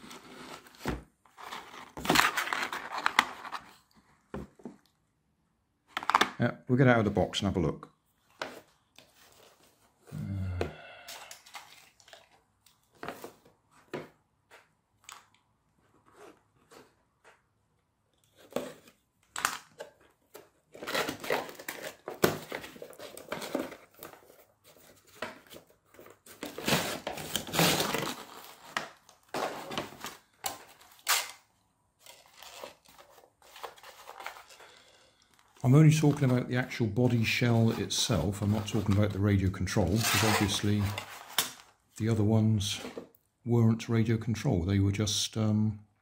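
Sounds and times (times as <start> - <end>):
cardboard and plastic packaging rustling: 0.0 - 4.8, 8.2 - 10.1, 11.0 - 17.6, 18.2 - 42.0.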